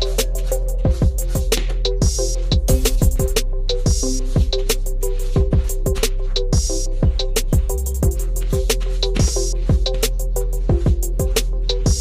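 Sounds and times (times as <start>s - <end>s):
hi-hat ticks: 0.0s - 12.0s
kick drum: 0.8s - 4.7s, 5.4s - 10.0s, 10.7s - 12.0s.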